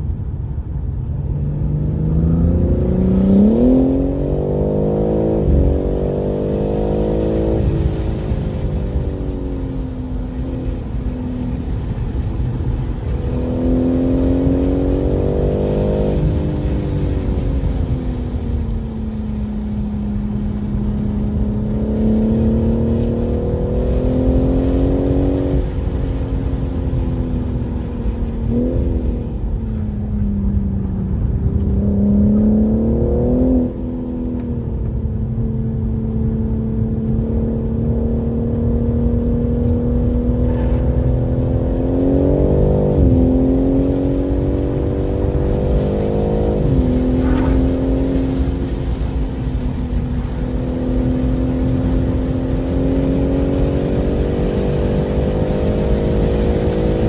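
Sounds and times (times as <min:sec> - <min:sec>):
car engine revving at speed: 0:00.0 - 0:57.0.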